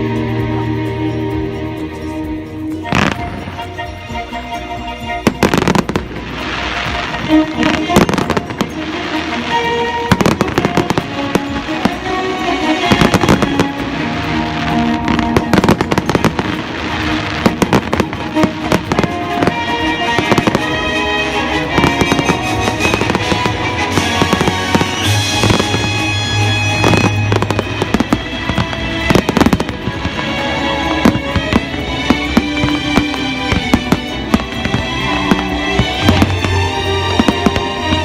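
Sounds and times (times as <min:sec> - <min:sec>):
music: 0:00.0 - 0:38.0
fireworks bangs and crackles: 0:02.8 - 0:03.9, 0:05.2 - 0:38.0.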